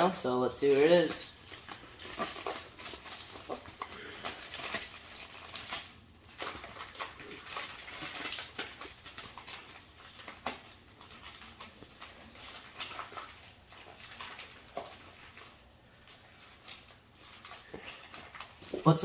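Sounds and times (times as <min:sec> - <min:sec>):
plastic mailer crinkling and ripping: 0:00.0 - 0:19.0.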